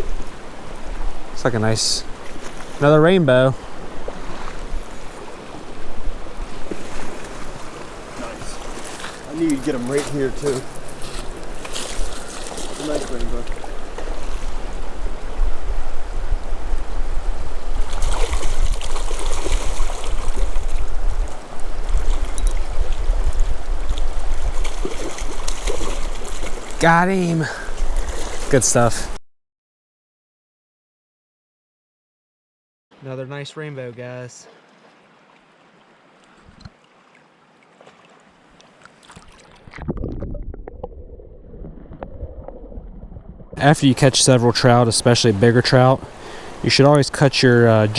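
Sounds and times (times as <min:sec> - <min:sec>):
creek water running: 0:00.0 - 0:29.2, 0:33.0 - 0:47.9.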